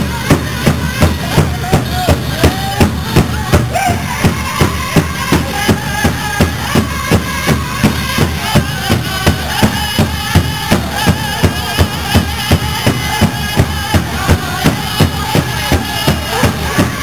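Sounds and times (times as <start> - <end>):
large drum beating steadily: 0.0 - 17.0
singers chanting: 0.0 - 17.0.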